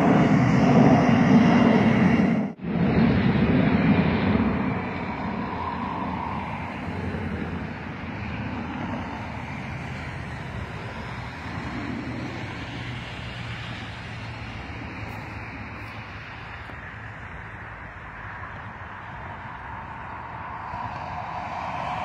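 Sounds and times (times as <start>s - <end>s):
highway traffic hiss: 0.0s - 22.0s
jet airliner rumble: 0.0s - 22.0s.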